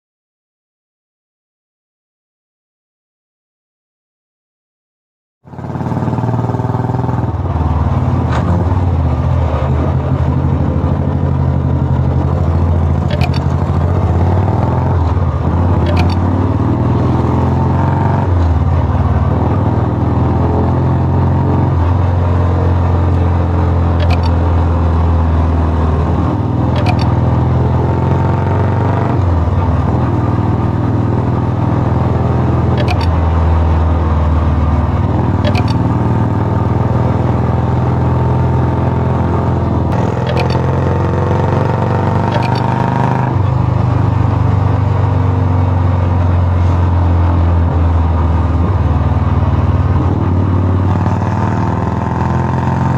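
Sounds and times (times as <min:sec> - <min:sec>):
motorcycle engine running: 0:05.4 - 0:52.9.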